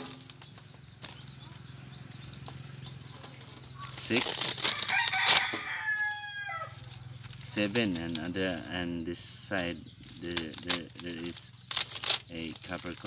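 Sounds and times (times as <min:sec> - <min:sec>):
circuit board layers crackling: 0:02.2 - 0:13.0.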